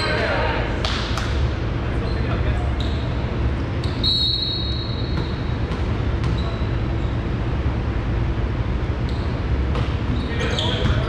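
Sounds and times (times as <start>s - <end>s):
gymnasium background rumble: 0.0s - 11.0s.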